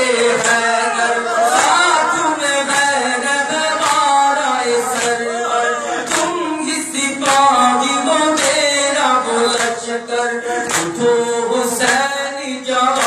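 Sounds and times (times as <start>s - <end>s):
man chanting through a microphone: 0.0s - 13.0s.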